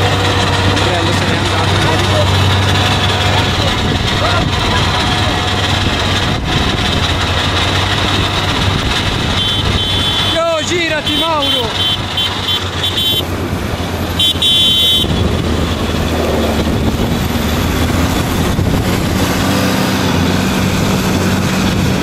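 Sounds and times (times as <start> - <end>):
tractor engine under load: 0.0 - 22.0.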